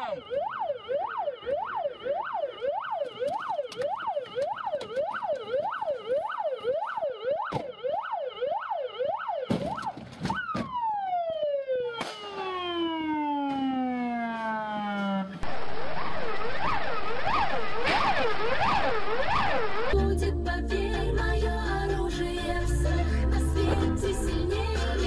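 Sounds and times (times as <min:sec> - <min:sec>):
police siren wailing: 0:00.0 - 0:20.1, 0:21.0 - 0:25.0.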